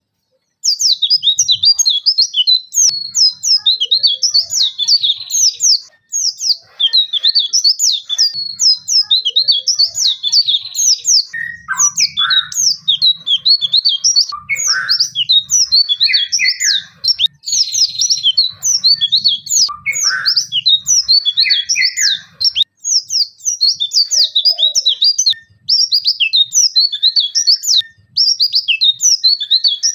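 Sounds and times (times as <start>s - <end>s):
bird chirping rapidly: 0.6s - 29.9s.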